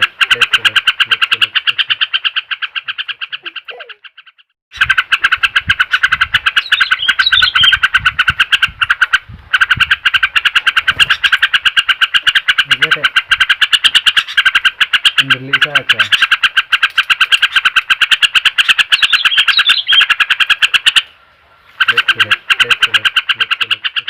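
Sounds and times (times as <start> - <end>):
rapid pulsing trill: 0.0 - 21.1.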